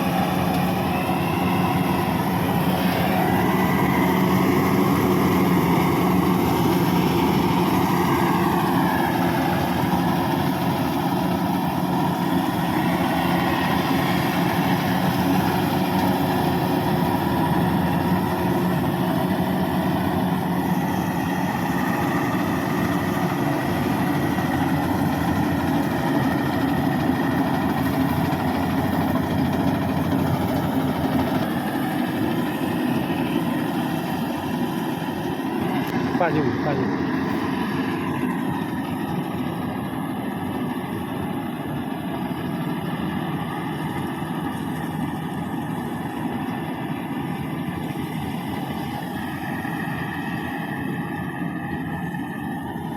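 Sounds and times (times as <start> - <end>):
harvester engine running: 0.0 - 52.9.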